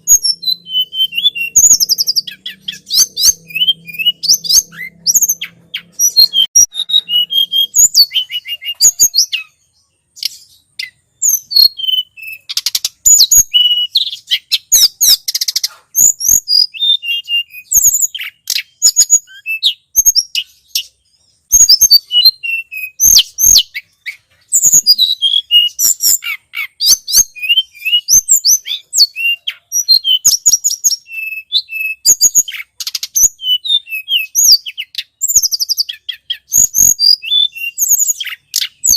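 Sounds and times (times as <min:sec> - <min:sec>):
bird song chirps and trills: 0:00.0 - 0:38.9.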